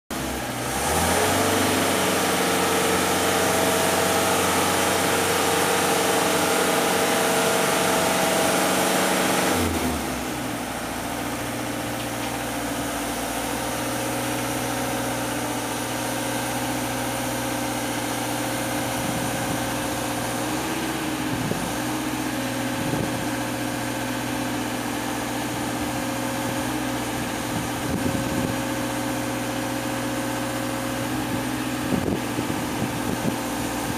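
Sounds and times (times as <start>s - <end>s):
boom lift engine revving: 0.1s - 33.9s.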